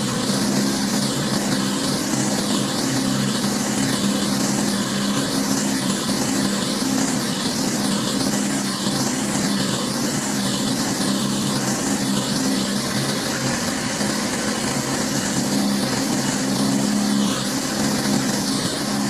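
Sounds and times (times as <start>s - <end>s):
high-pressure water spraying: 0.0s - 19.0s
pressure washer motor humming: 0.0s - 19.0s.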